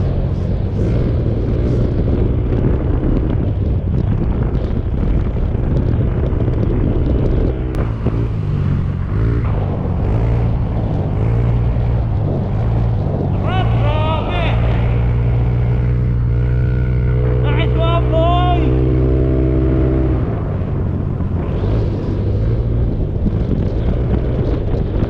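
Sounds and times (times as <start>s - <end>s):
motorcycle engine running: 0.0s - 25.0s
wind rushing on microphone: 0.0s - 25.0s.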